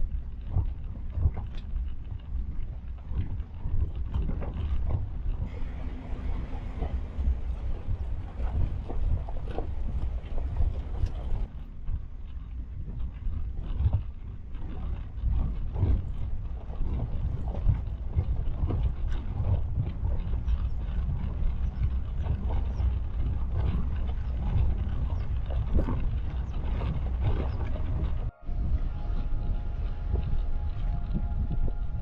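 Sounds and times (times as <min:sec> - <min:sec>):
vehicle rumbling on rough track: 0:00.0 - 0:32.0.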